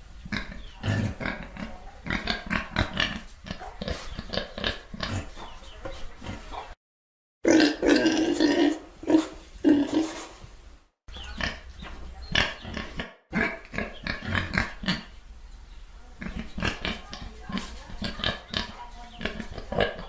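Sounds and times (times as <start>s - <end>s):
pigs grunting and oinking: 0.3s - 6.8s, 7.5s - 10.4s, 11.1s - 15.2s, 16.2s - 20.0s.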